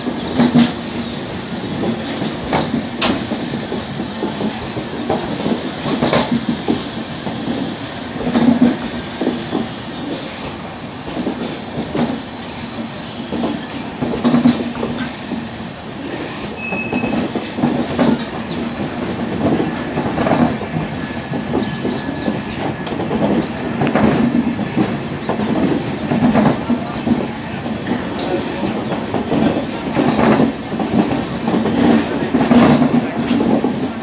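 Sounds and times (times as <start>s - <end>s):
train wheels clacking on rail joints: 0.0s - 34.0s.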